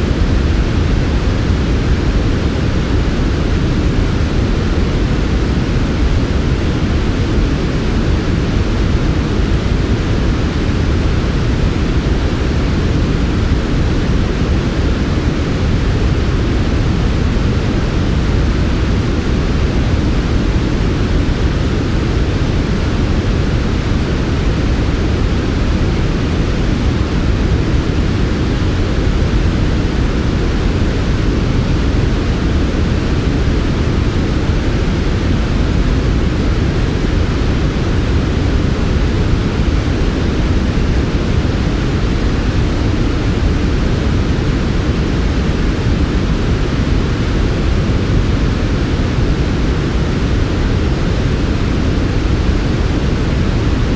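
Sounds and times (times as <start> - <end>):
low rumbling electronic noise: 0.0 - 53.9.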